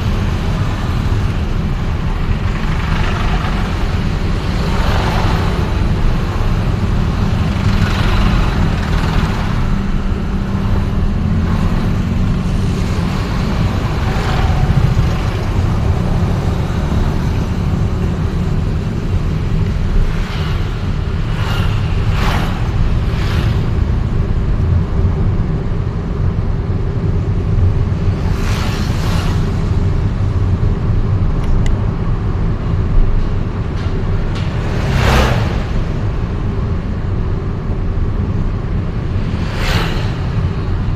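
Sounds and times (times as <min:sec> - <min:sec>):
vehicles swishing past: 0:00.0 - 0:25.4, 0:27.1 - 0:31.2, 0:31.8 - 0:40.9
traffic rumble: 0:00.0 - 0:40.9.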